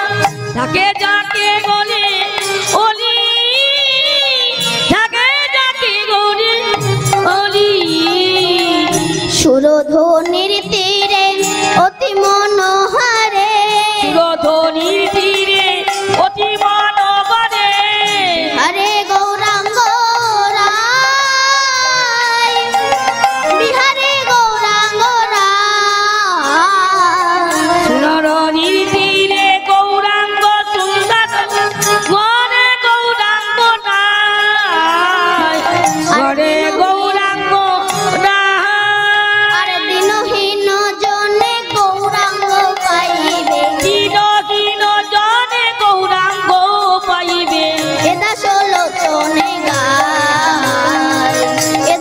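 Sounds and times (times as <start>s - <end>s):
girl singing devotional song: 0.0s - 22.9s, 23.5s - 52.0s.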